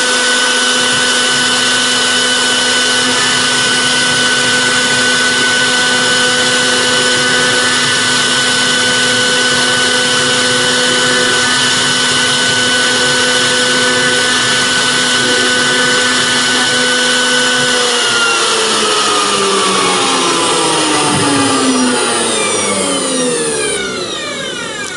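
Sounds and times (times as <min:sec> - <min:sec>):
router spindle whine: 0:00.0 - 0:24.9.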